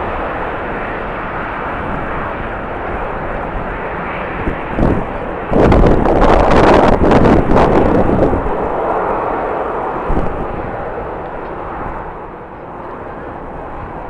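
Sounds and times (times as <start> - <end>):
jet airliner engines: 0.0 - 14.0.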